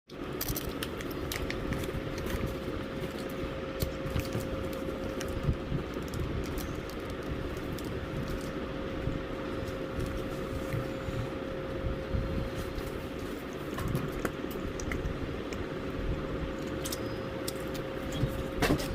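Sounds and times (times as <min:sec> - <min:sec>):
steady tonal hum: 0:00.1 - 0:18.9.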